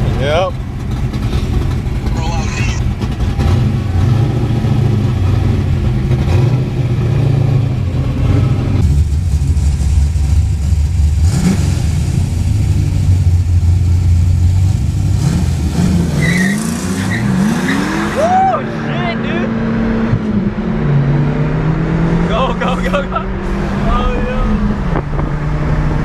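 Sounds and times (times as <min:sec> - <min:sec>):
car engine and exhaust running: 0:00.0 - 0:26.0.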